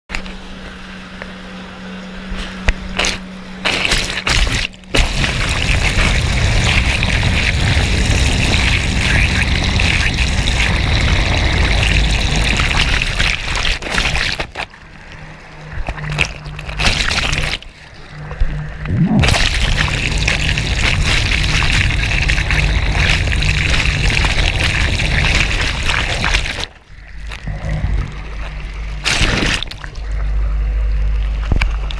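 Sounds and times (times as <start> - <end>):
jet ski engine: 0.1 - 31.9
water rushing and splashing: 2.4 - 31.9.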